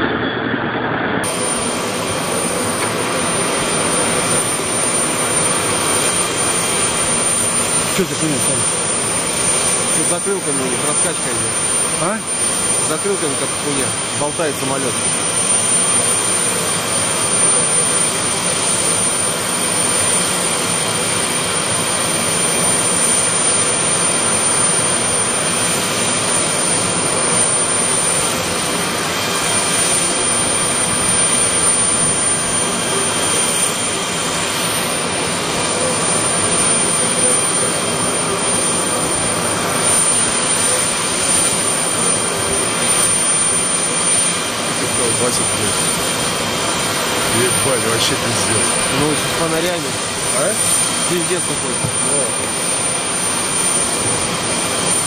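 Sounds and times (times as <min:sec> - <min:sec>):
jet airliner flying low: 0:00.0 - 0:55.0
thin steady engine whines: 0:00.0 - 0:55.0.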